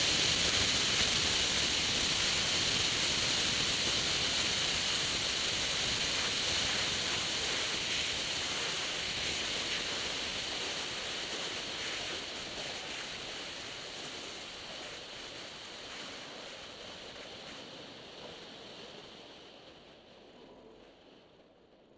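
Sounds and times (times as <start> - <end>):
aircraft engine and propeller: 0.0 - 20.5.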